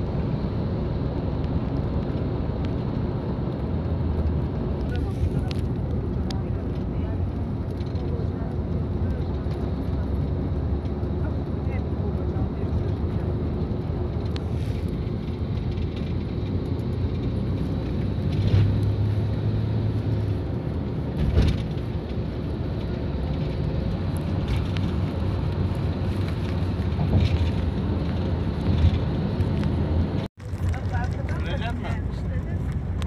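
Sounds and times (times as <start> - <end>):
car driving at highway speed: 0.0 - 33.0.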